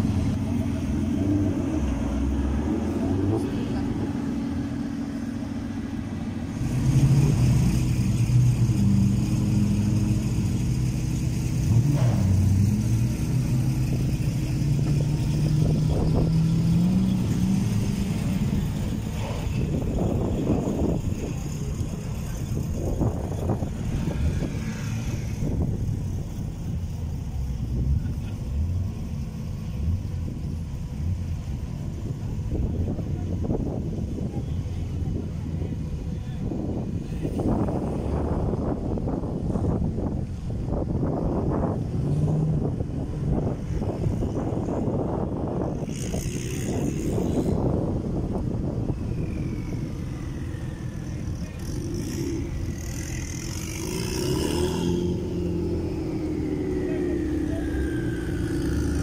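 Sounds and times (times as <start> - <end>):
car engines running: 0.0 - 59.0.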